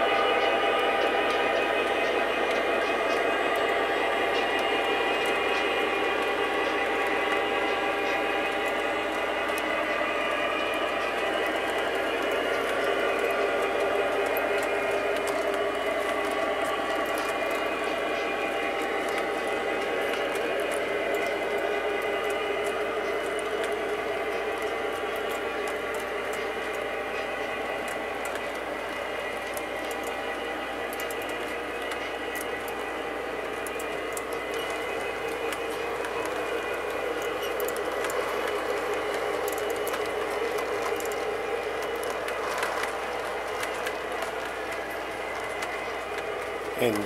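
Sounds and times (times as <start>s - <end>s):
model train motor whine: 0.0s - 47.0s
wheels clicking on rails: 0.0s - 47.0s.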